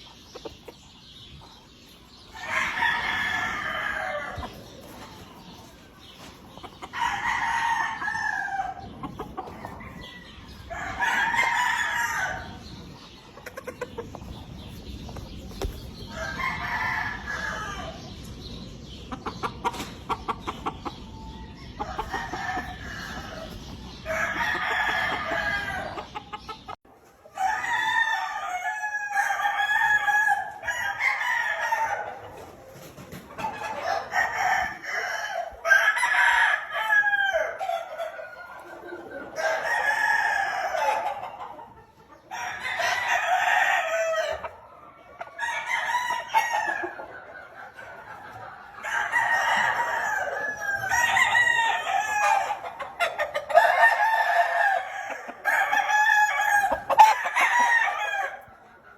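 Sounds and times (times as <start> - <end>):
hens clucking: 0.0 - 27.4, 28.1 - 58.9
roosters crowing: 2.1 - 13.7, 14.6 - 18.2, 20.8 - 32.7, 33.4 - 58.7.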